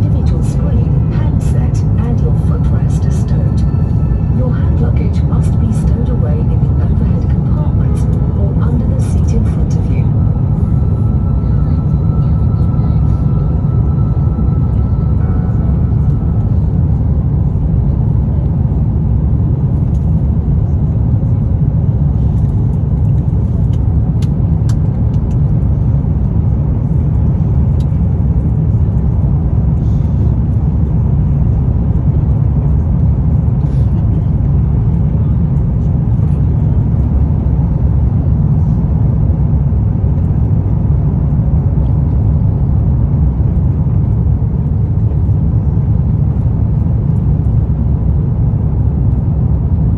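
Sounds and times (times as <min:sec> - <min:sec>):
airplane cabin rumble: 0:00.0 - 0:49.9.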